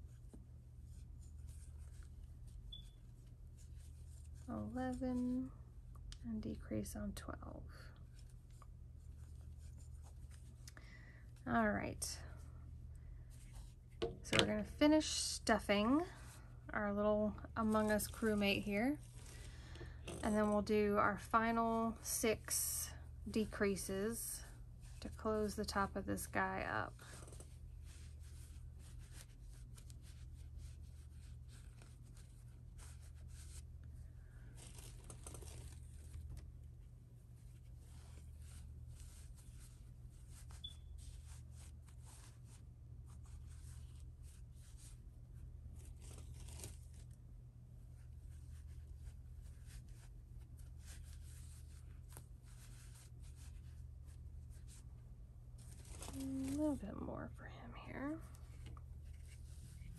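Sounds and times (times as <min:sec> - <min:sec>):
rustling and scratching of stuffing: 0:00.0 - 0:06.0, 0:06.6 - 0:59.9.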